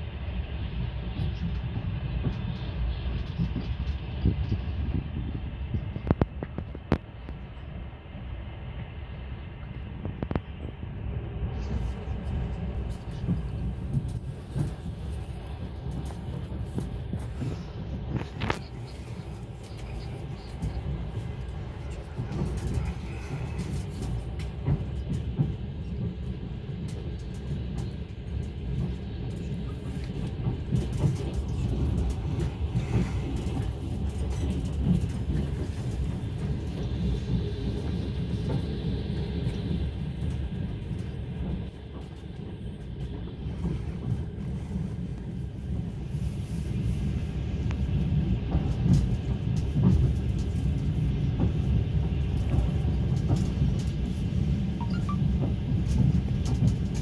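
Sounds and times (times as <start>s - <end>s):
train carriage rumbling on rails: 0.0s - 57.0s.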